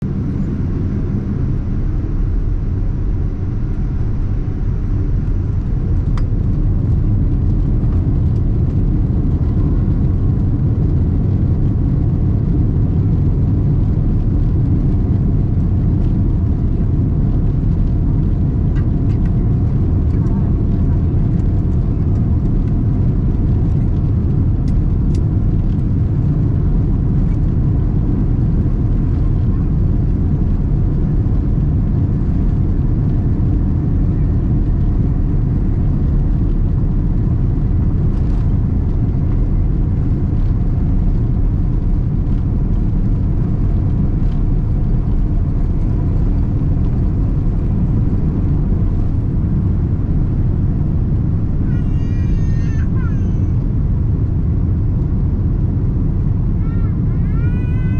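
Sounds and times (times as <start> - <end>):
jet engines rumbling in cabin: 0.0 - 57.9.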